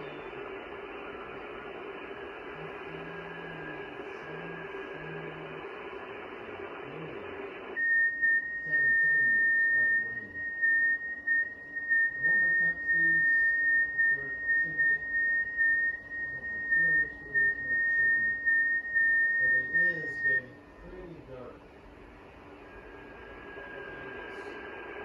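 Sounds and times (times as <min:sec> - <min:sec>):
radio receiver hiss: 0:00.0 - 0:10.8, 0:11.8 - 0:25.0
loud steady high tone: 0:00.0 - 0:21.5, 0:22.5 - 0:25.0.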